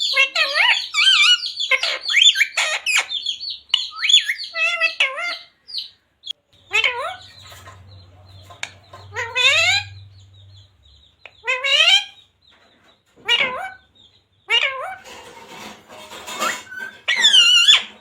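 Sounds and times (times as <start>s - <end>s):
parrot calling: 0.0s - 12.3s, 13.2s - 15.2s, 16.2s - 18.0s.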